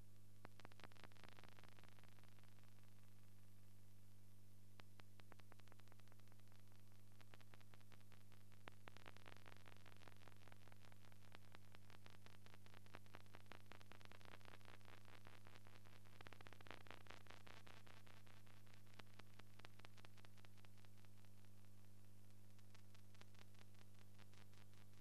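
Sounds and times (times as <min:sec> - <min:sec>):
faint low hum with hiss: 0:00.0 - 0:25.0
faint crackling clicks: 0:00.4 - 0:03.7, 0:04.7 - 0:25.0.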